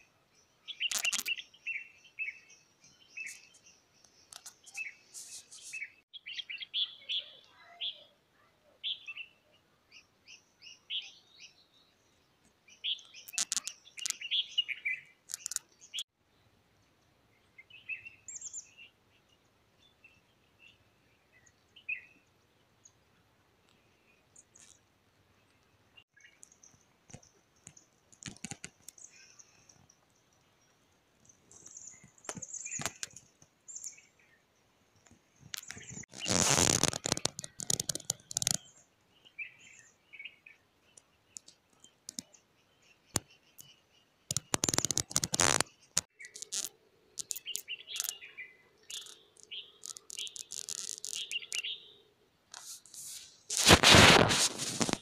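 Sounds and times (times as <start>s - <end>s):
small birds chirping: 0.0s - 16.1s, 16.9s - 55.0s.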